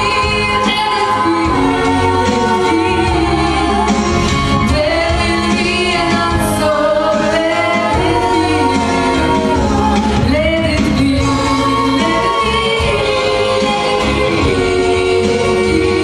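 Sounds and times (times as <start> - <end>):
female vocal trio singing in harmony: 0.0 - 16.0
low musical accompaniment: 0.0 - 16.0.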